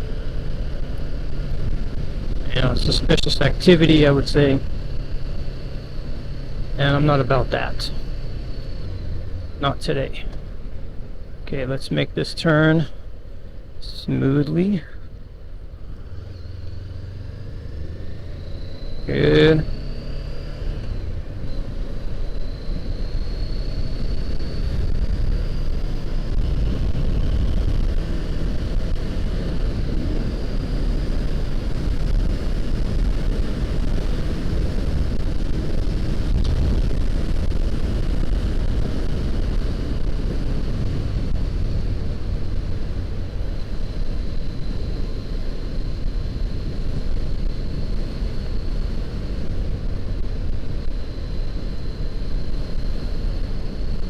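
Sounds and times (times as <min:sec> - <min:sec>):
motorcycle engine running: 0:00.0 - 0:09.6, 0:15.5 - 0:54.0
wind rushing over microphone: 0:00.0 - 0:11.4, 0:15.7 - 0:54.0.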